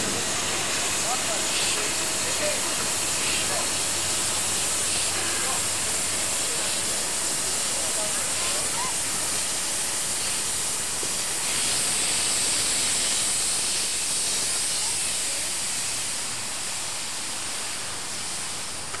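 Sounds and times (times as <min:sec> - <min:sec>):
steam locomotive venting steam: 0:00.0 - 0:19.0.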